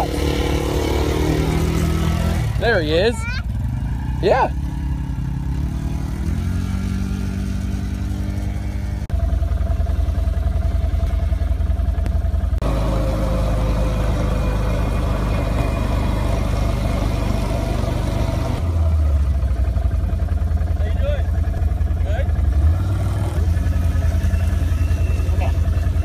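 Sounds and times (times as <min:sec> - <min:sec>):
small atv engine running: 0:00.0 - 0:26.0.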